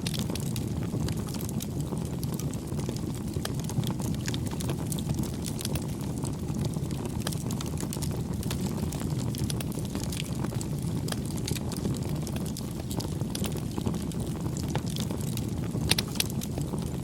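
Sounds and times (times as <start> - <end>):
campfire crackling: 0.0 - 17.0
low rumble of flames: 0.0 - 17.0.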